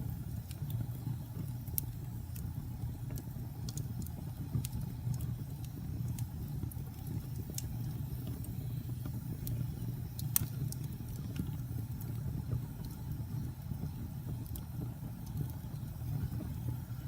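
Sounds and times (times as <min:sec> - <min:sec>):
fire burning low: 0:00.0 - 0:17.0
fire crackles and pops: 0:00.0 - 0:17.0.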